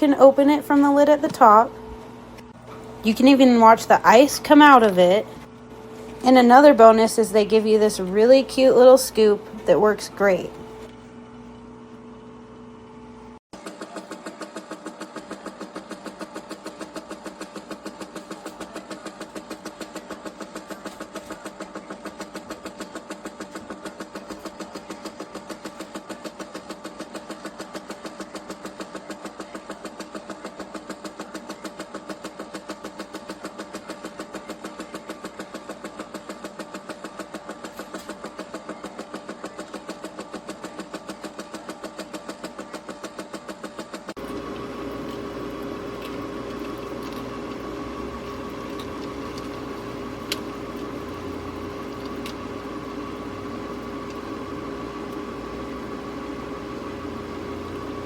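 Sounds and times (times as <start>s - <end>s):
ice maker motor hum pulsing: 0.0s - 58.0s.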